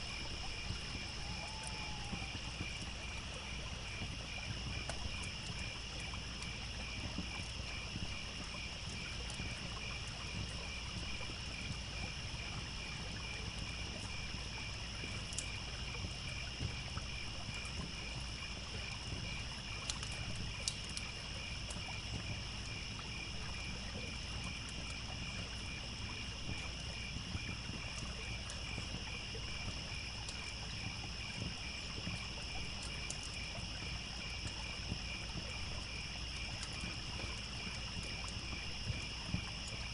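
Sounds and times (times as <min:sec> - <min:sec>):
campfire crackles: 0:00.0 - 0:39.9
crickets chirping: 0:00.0 - 0:39.9
trickling stream: 0:00.0 - 0:39.9.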